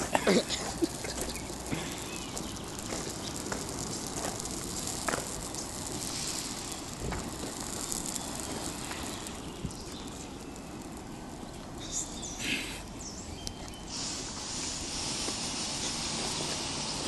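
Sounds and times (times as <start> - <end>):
dry grass burning hiss: 0.0 - 17.0
fire crackles: 0.0 - 17.0.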